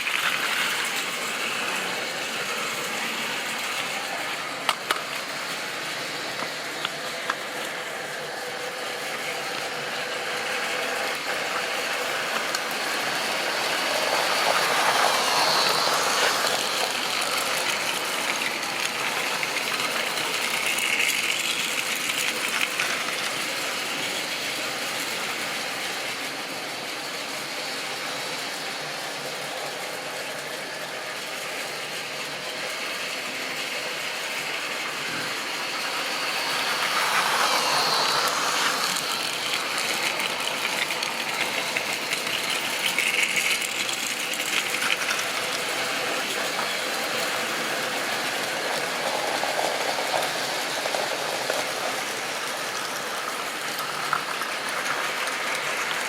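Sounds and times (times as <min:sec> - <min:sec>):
model train motor whirring: 0:00.0 - 0:56.0
wheels rattling on rails: 0:00.0 - 0:56.0.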